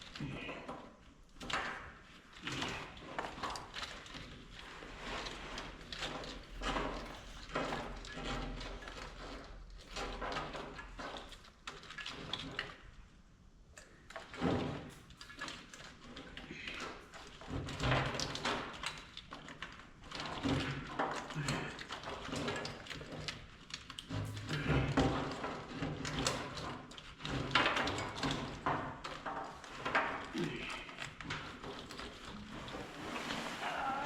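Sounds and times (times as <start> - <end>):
wiring harness scraping and rustling: 0.0 - 13.0, 14.0 - 34.0.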